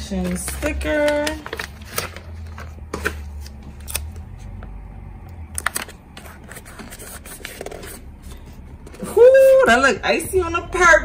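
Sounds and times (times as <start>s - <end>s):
low hum: 0.3s - 11.0s.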